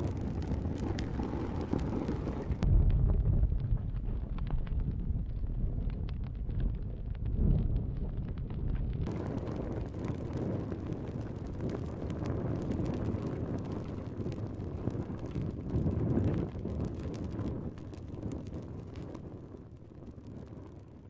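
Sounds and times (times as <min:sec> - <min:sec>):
fire rumbling and crackling: 0:00.0 - 0:21.0.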